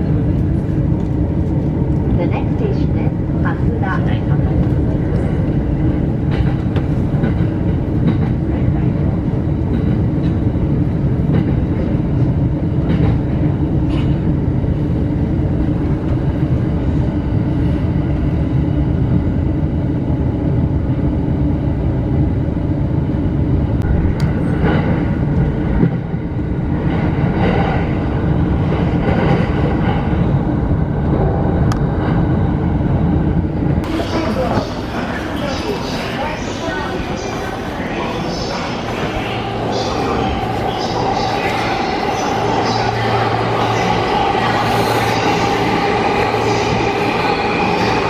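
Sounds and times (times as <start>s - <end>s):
train wheels rumbling on rails: 0.0s - 21.2s, 22.9s - 48.0s.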